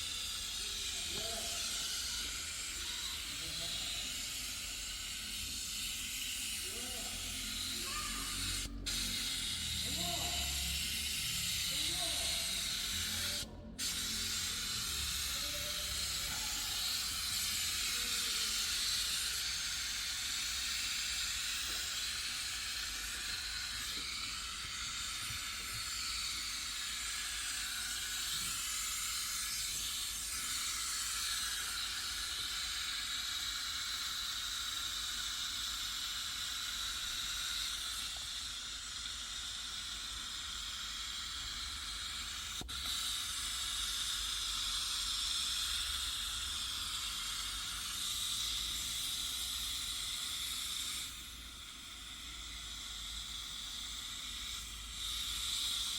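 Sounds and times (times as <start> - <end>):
pressurised jet hissing: 0.0 - 55.9.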